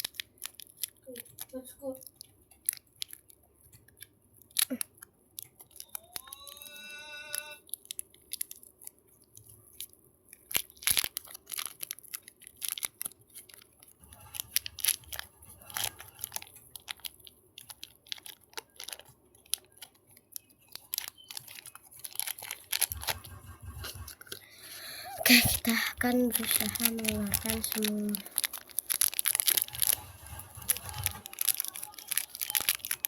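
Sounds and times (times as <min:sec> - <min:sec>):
plastic wrapper crinkling and tearing: 0:00.0 - 0:33.0.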